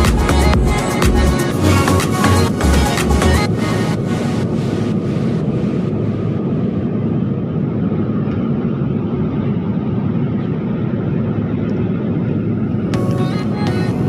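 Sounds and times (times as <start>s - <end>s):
airplane engines rumbling: 0.0s - 14.0s
rushing air: 0.0s - 14.0s.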